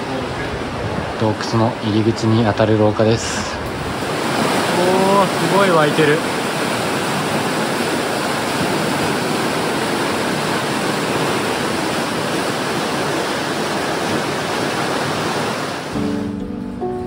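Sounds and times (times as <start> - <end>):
water gushing and rushing: 0.0 - 16.3.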